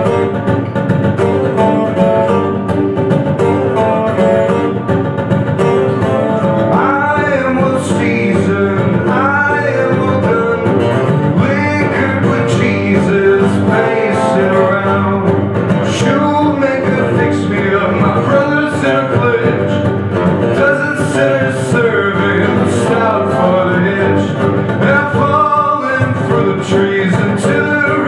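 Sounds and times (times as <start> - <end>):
acoustic guitars strumming: 0.0 - 28.0.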